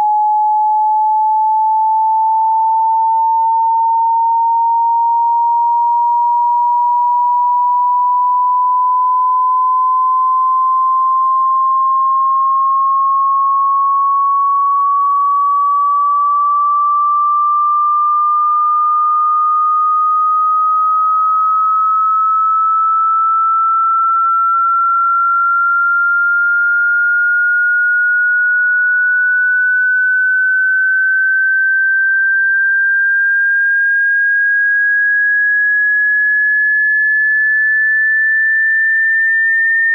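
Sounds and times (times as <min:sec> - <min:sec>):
sine tone rising in pitch: 0:00.0 - 0:39.9.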